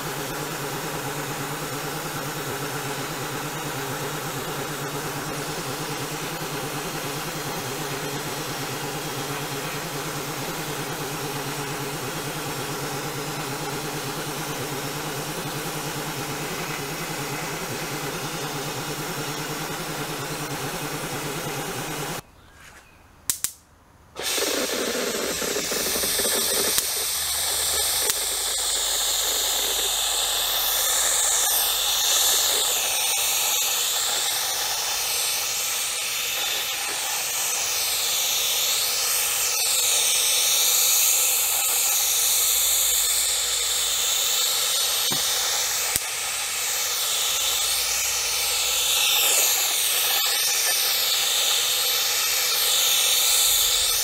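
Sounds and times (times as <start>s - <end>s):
abrasive blaster hissing on steel: 0.0s - 22.2s, 24.2s - 54.0s
motor humming: 0.0s - 22.2s, 24.2s - 54.0s
paint spray gun hissing: 0.0s - 22.2s, 24.2s - 54.0s.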